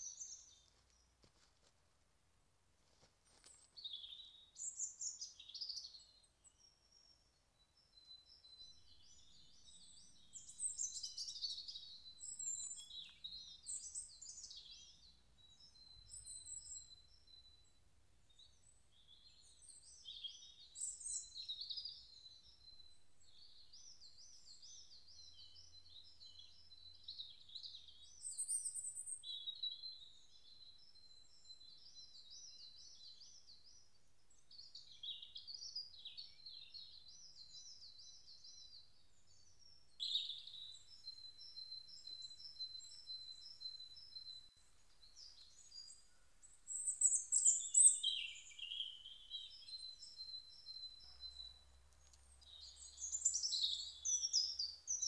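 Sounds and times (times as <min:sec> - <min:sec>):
birds singing trills and chirps: 0:00.0 - 0:01.2, 0:03.4 - 0:55.0.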